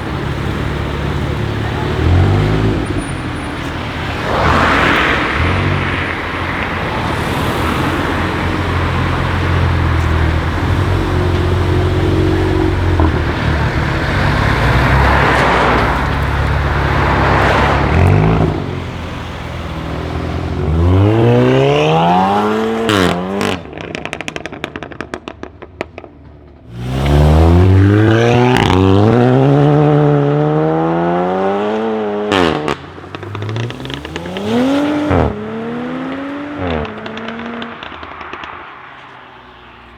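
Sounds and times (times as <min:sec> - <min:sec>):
car engine accelerating: 0:00.0 - 0:25.4, 0:26.6 - 0:39.9
exhaust crackles and pops: 0:00.0 - 0:29.6, 0:32.4 - 0:39.9.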